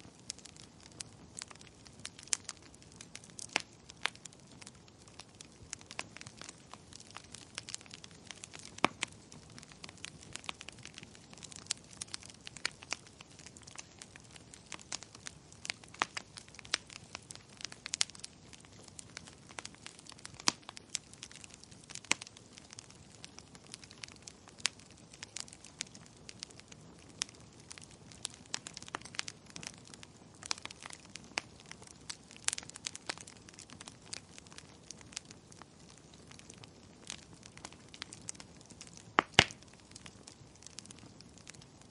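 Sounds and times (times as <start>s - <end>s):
fire popping and snapping: 0.0s - 41.9s
soft fire hiss: 0.0s - 41.9s.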